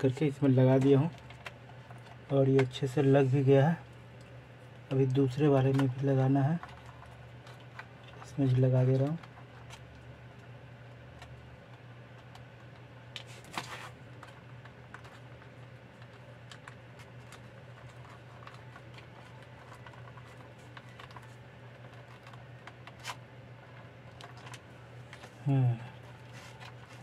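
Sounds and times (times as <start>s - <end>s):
fingers handling wires and plastic: 0.0s - 27.0s
steady low hum: 0.0s - 27.0s.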